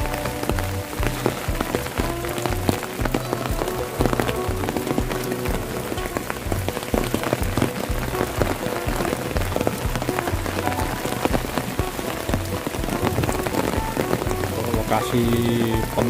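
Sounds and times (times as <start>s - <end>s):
raindrops ticking: 0.0s - 16.0s
steady rain: 0.0s - 16.0s.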